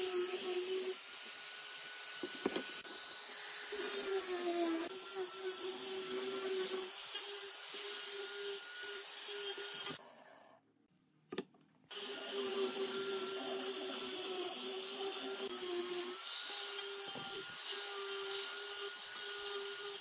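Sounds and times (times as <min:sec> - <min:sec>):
angle grinder sanding wood: 0:00.0 - 0:10.2, 0:11.9 - 0:20.0.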